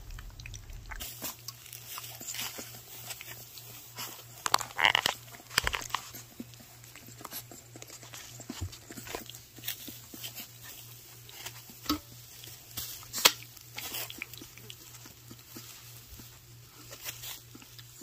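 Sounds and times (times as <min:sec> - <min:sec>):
puppies smacking and lapping food: 0:00.0 - 0:18.0.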